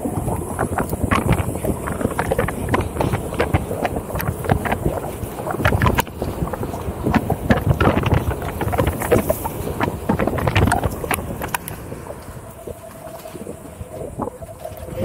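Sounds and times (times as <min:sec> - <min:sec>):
tyre rolling over dirt: 0:00.0 - 0:15.0
wind on microphone: 0:00.0 - 0:15.0
knocks and crackles from ground: 0:00.1 - 0:14.8.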